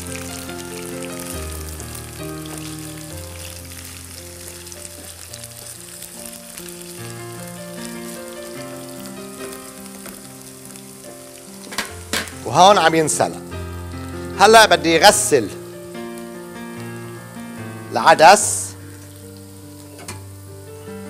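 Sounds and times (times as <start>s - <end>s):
food sizzling in hot oil: 0.0s - 21.0s
soft slow background music: 0.0s - 21.0s.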